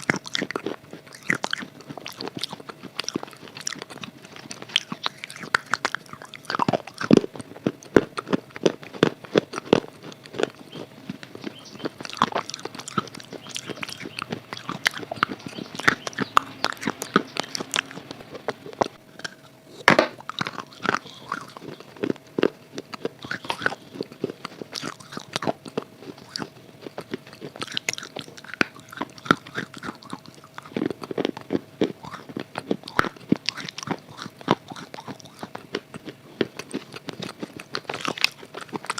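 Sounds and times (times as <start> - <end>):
crunching and chewing clay: 0.0 - 38.9
faint steady hum: 0.0 - 38.9.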